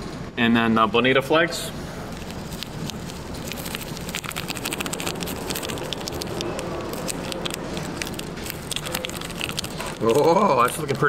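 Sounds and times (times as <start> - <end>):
plastic packet crinkling: 2.1 - 11.0.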